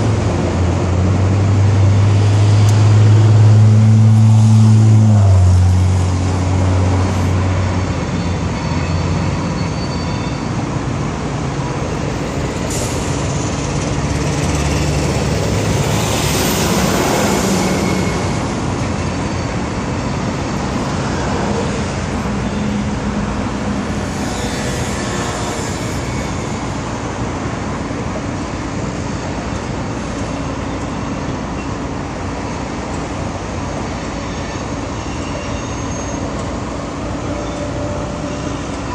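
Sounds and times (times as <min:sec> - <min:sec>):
train rumble and hiss: 0:00.0 - 0:38.9.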